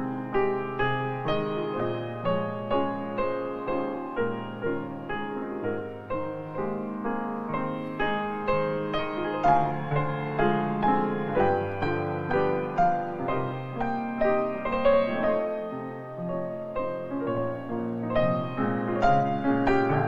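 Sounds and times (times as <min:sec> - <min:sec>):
gentle piano piece: 0:00.0 - 0:20.0.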